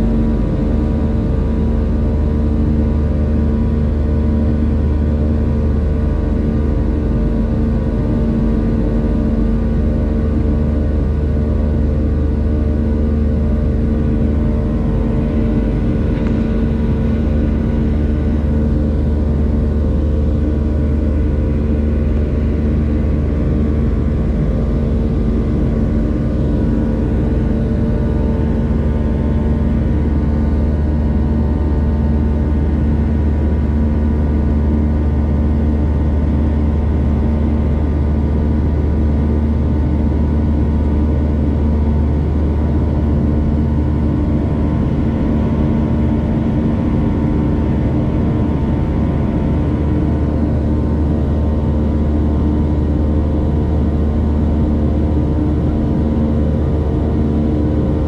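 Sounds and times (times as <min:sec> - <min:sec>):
jet engines droning: 0:05.6 - 0:58.0.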